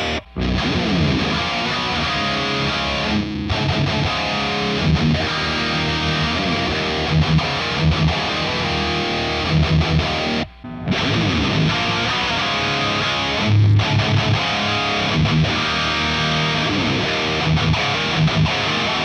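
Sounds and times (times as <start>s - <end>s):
distorted electric guitar riff: 0.0s - 19.0s.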